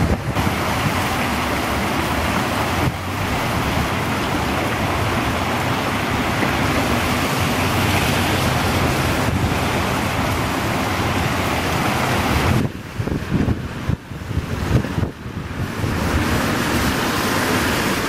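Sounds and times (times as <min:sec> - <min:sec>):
runoff water rushing down channel: 0:00.0 - 0:18.0.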